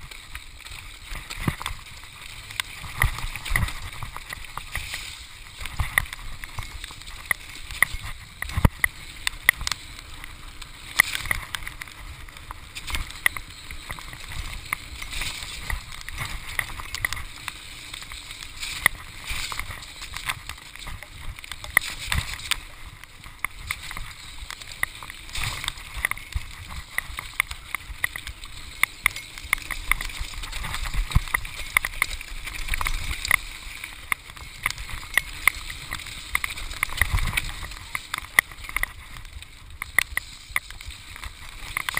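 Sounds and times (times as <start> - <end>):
bike rattling over bumps: 0.0 - 41.9
tyres rumbling over dirt: 0.0 - 41.9.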